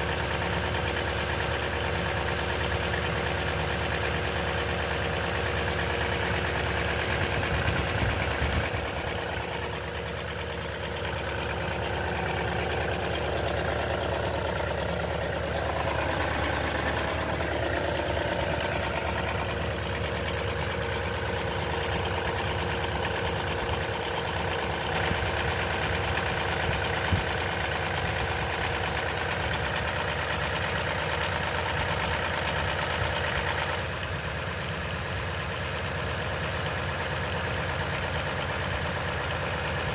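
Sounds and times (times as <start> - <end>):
engine idling with rattle: 0.0 - 39.9.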